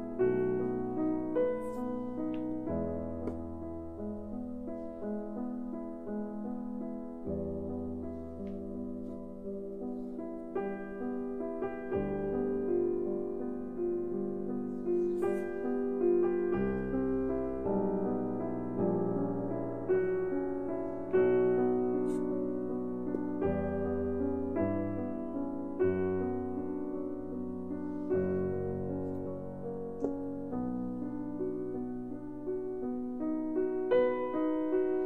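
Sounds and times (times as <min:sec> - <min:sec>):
slow calm piano music: 0:00.0 - 0:35.0.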